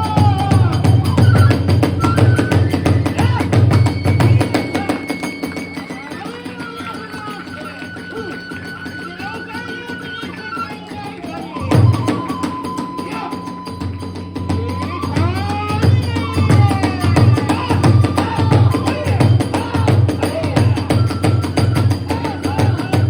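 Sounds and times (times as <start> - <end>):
bamboo flute: 0.0 - 23.0
drums beating: 0.0 - 23.0.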